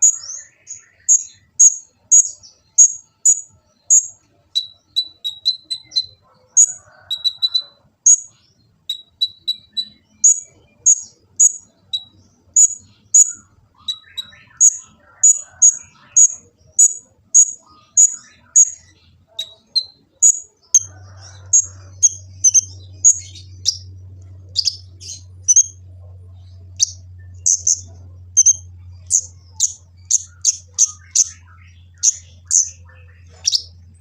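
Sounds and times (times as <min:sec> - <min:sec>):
steady low hum: 0:00.0 - 0:34.0
sunbird chirping: 0:00.0 - 0:34.0.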